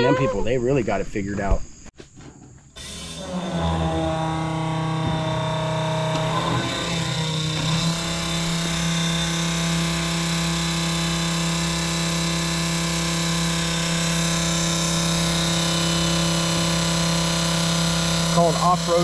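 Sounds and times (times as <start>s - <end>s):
electric pump humming: 2.7s - 19.0s.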